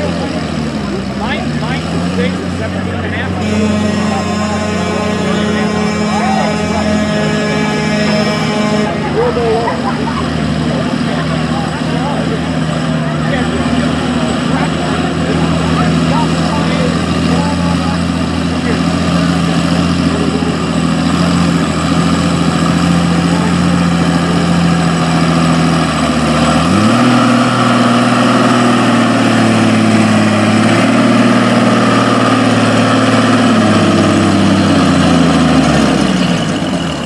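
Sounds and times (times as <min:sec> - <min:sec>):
tractor engine revving: 0:00.0 - 0:37.0.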